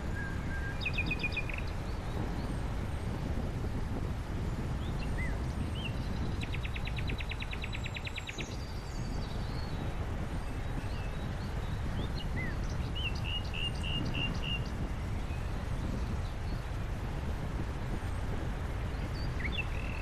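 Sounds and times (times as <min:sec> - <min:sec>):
small songbirds chirping: 0:00.0 - 0:03.3, 0:04.0 - 0:20.0.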